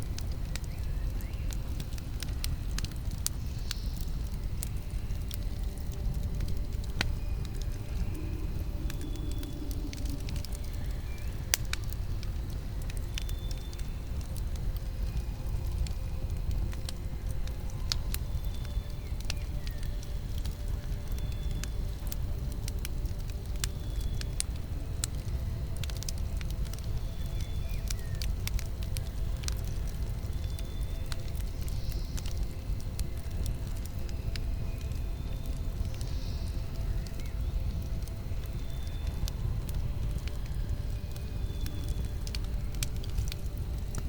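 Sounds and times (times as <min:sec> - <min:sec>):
low rumble: 0:00.0 - 0:44.0
wood fire crackling: 0:00.0 - 0:44.0.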